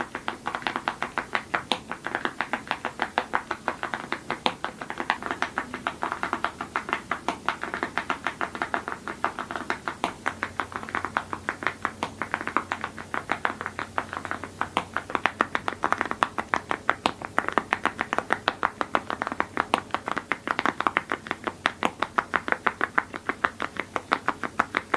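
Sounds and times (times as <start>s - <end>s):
typing on a mechanical keyboard: 0.0s - 24.9s.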